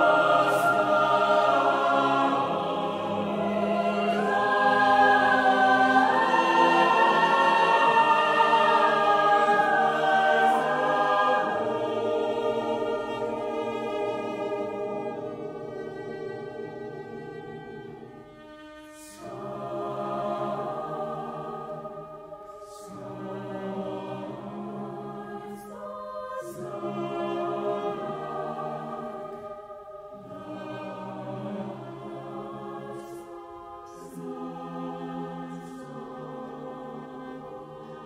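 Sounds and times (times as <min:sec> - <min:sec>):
mixed choir singing: 0:00.0 - 0:38.0.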